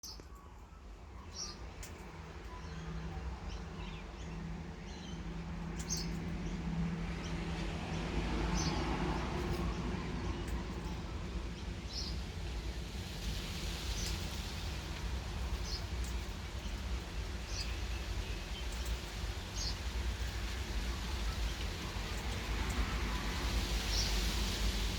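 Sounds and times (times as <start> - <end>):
birds chirping: 0.0 - 24.4
low outdoor rumble: 0.1 - 24.9.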